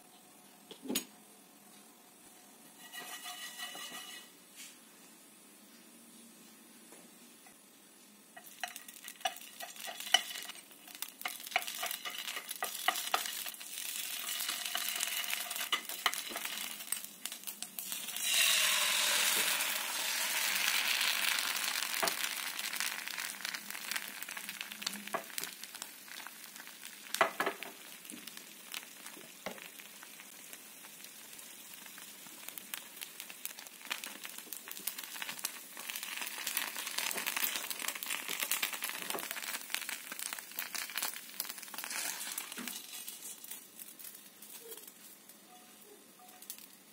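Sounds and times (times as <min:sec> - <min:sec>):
batter sizzling in a frying pan: 0:02.6 - 0:05.4, 0:07.4 - 0:46.9.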